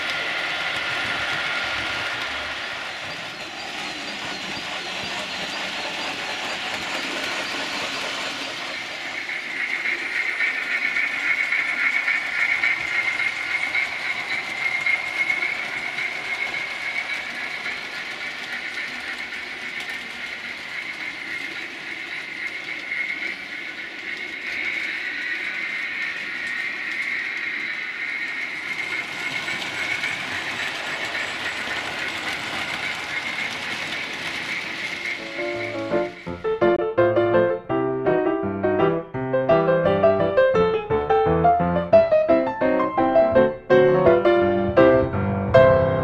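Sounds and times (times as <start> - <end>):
model trains running on track: 0.0 - 45.7
high whine of locomotives: 0.0 - 46.0.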